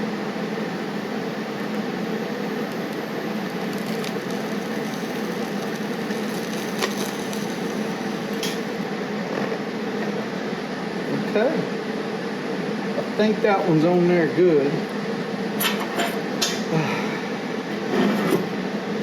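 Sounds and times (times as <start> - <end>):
torch flame roaring: 0.0 - 19.0.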